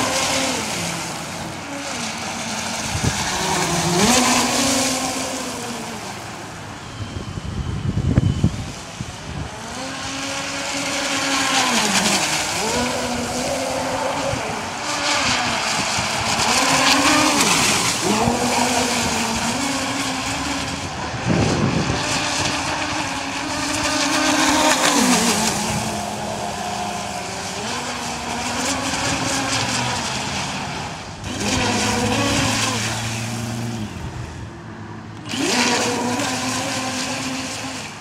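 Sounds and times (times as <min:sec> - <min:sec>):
electric motors whining: 0:00.0 - 0:38.0.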